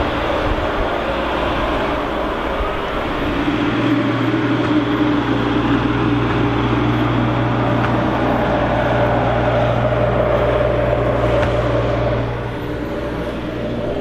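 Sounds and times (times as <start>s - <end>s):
snow-clearing machine engine droning: 0.0s - 14.0s.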